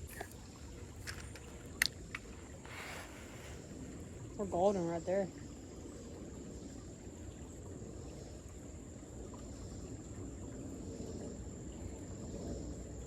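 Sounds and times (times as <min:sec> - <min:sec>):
creek background noise: 0:00.0 - 0:13.0.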